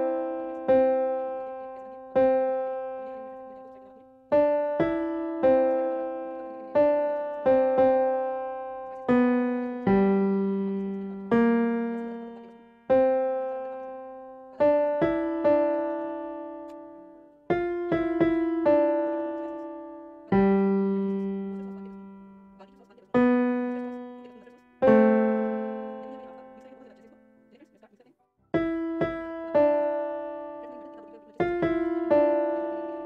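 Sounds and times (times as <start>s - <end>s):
slow piano music: 0.0s - 27.7s, 28.6s - 33.0s.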